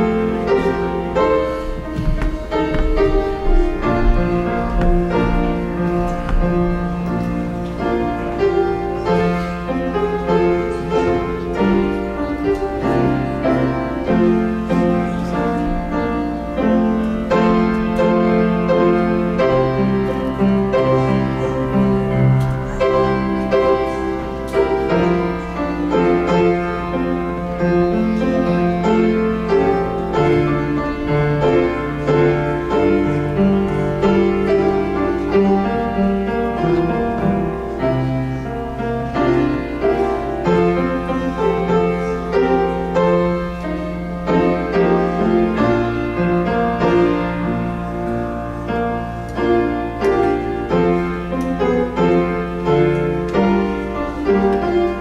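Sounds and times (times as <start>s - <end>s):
slow keyboard chords: 0.0s - 55.0s.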